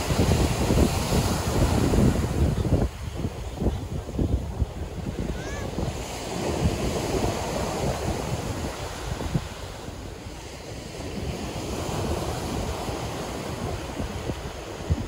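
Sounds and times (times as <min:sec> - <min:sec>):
waves breaking on pebble beach: 0:00.0 - 0:15.0
wind buffeting microphone: 0:00.0 - 0:15.0.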